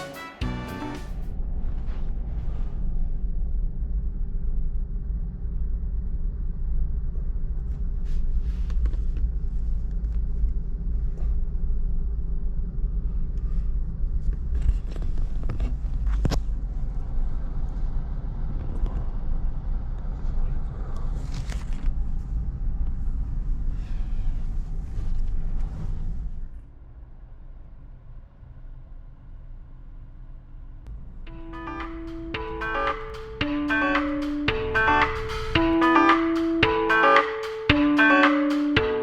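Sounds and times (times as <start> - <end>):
road and engine rumble in cabin: 1.1 - 33.4.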